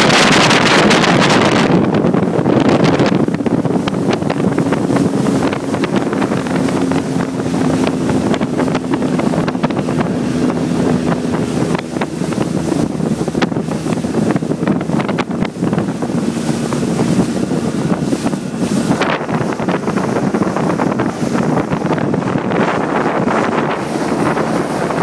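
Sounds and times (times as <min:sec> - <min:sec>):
motorboat engine running: 0:00.0 - 0:25.0
water rushing and splashing: 0:00.0 - 0:25.0
wind buffeting microphone: 0:00.0 - 0:25.0.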